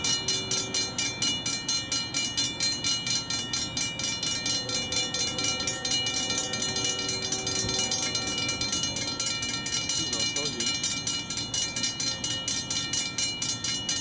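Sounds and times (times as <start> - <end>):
railroad crossing bells ringing: 0.0 - 14.0.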